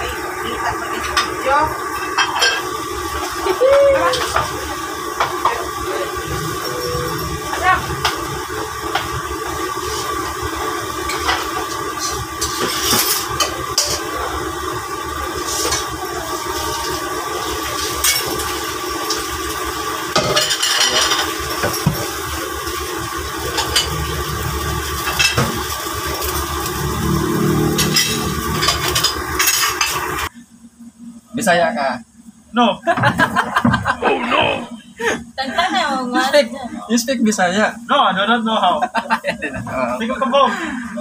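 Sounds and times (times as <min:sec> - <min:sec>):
steady kitchen rushing: 0:00.0 - 0:30.3, 0:32.8 - 0:41.0.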